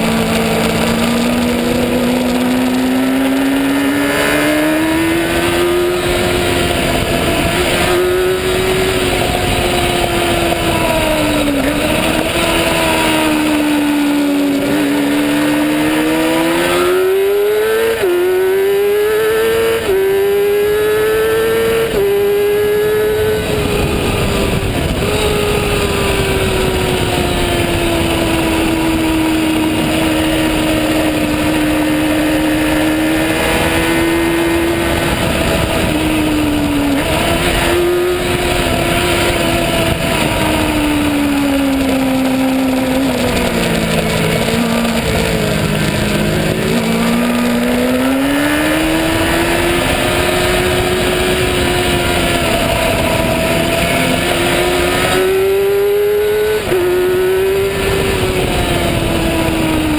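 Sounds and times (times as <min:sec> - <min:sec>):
motorcycle engine at high revs: 0:00.0 - 0:59.9
wind noise: 0:00.0 - 0:59.9.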